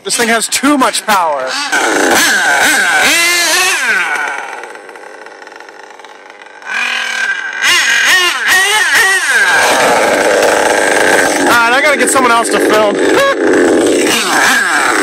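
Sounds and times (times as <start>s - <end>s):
model truck engine revving: 1.4s - 15.0s.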